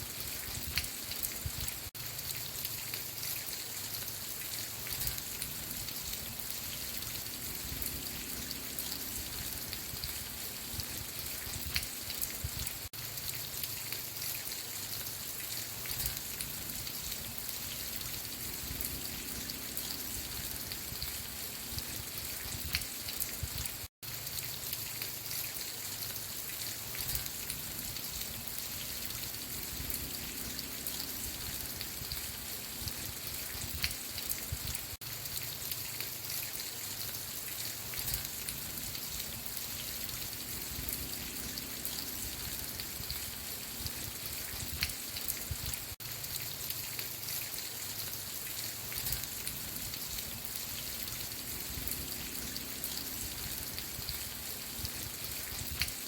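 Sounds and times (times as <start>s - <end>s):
steady rain: 0.0s - 56.0s
raindrop ticks: 0.3s - 56.0s.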